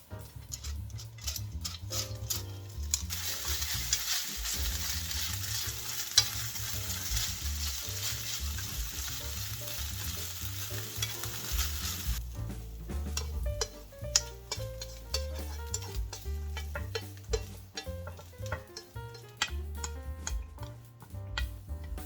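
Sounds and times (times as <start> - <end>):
food sizzling in a frying pan: 0.0 - 21.9.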